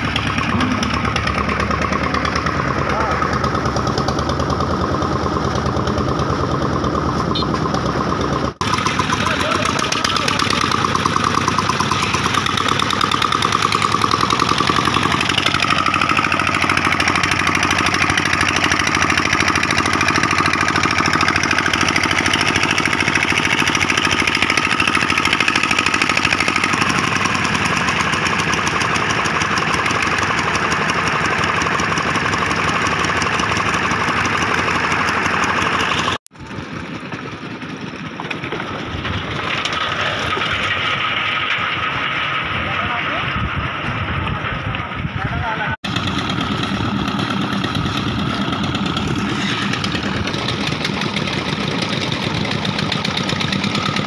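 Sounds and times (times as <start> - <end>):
concrete mixer engine knocking: 0.0 - 54.0
quieter engine running: 0.0 - 54.0.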